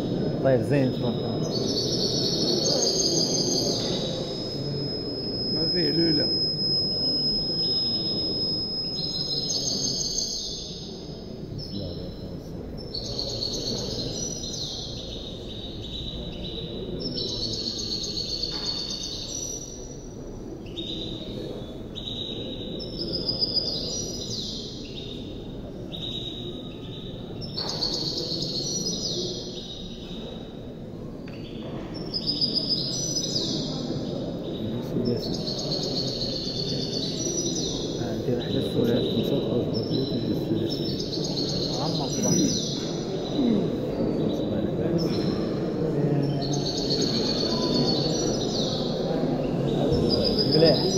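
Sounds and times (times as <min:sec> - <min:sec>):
songbird trilling and whistling: 0:00.0 - 0:30.6, 0:31.3 - 0:45.6, 0:46.2 - 0:50.9.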